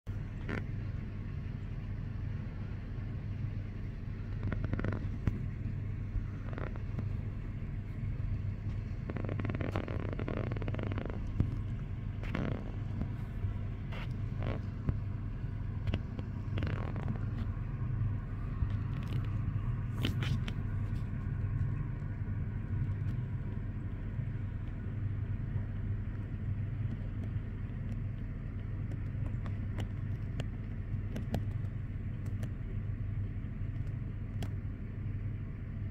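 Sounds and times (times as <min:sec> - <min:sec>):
distant city traffic rumble: 0:00.1 - 0:35.9.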